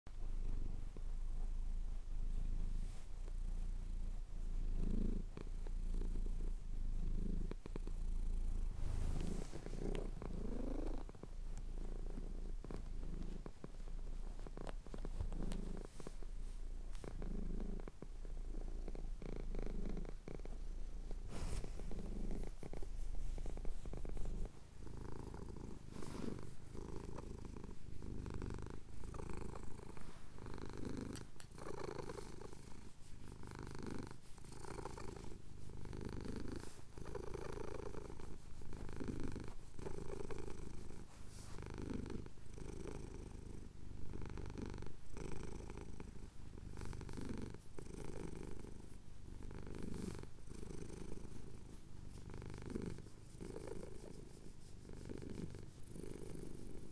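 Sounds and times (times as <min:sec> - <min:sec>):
cat purring: 0:00.1 - 0:56.9.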